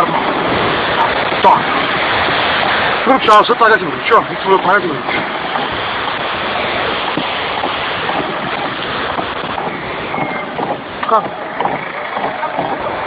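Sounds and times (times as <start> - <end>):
road and wind noise in car: 0.0 - 13.0.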